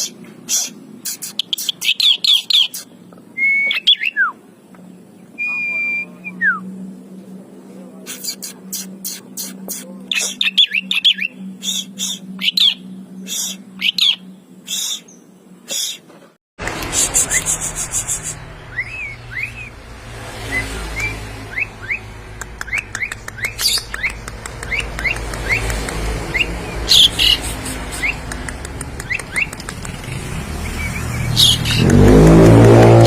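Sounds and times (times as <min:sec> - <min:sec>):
starling singing: 0:00.0 - 0:04.4, 0:08.1 - 0:16.1, 0:17.0 - 0:19.8, 0:20.4 - 0:32.0.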